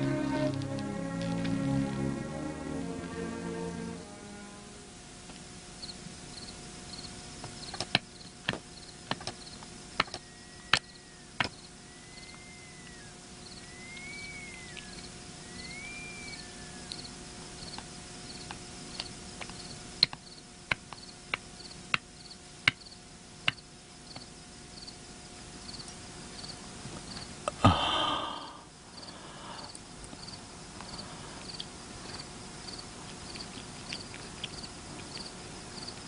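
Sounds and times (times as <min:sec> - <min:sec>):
crickets chirping: 0:05.8 - 0:09.6, 0:10.2 - 0:36.0.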